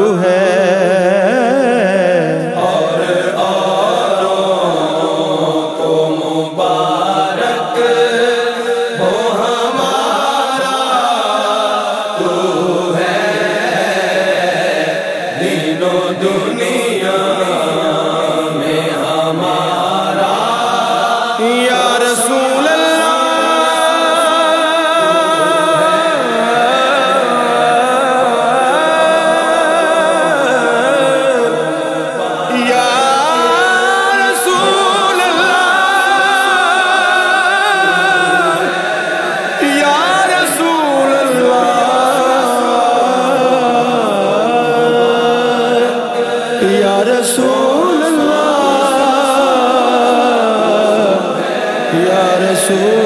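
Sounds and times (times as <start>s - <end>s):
wordless vocal chorus chanting: 0.0s - 53.0s.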